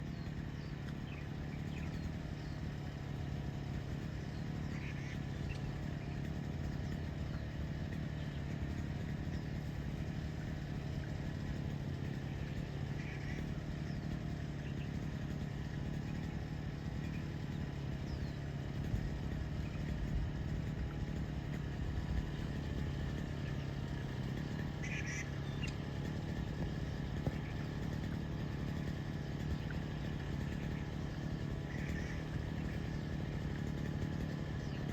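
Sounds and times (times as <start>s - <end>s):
low engine-like drone: 0.0s - 34.9s.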